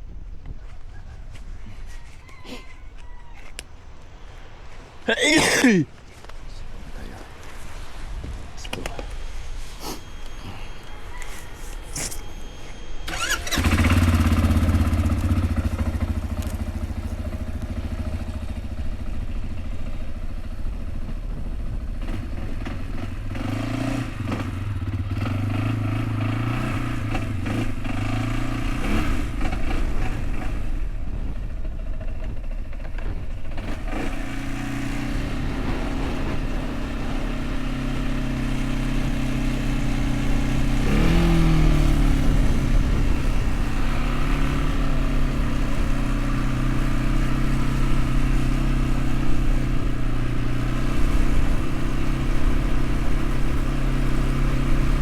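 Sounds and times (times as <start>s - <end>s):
vehicle engine running: 9.6s - 55.0s.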